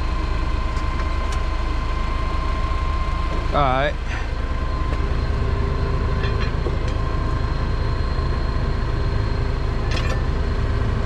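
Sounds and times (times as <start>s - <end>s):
faint steady whines: 0.0s - 11.0s
heavy machine engine rumble: 0.0s - 11.0s.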